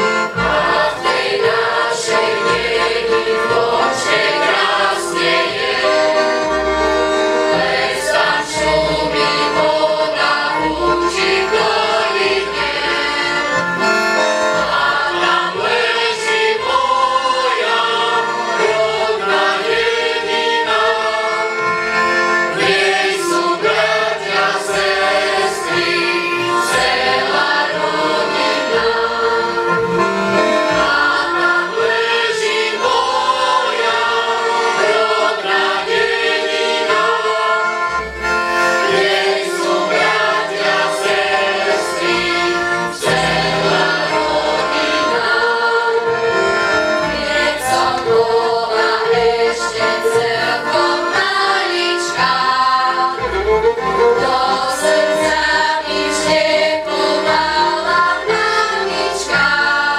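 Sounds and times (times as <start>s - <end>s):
fiddles: 0.0s - 59.9s
mixed choir singing folk song: 0.0s - 59.9s.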